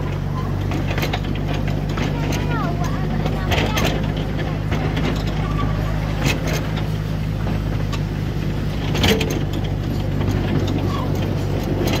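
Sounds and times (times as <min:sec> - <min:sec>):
carriages rumbling on track: 0:00.0 - 0:12.0
miniature train engine drone: 0:00.0 - 0:12.0
short clatter: 0:00.0 - 0:12.0.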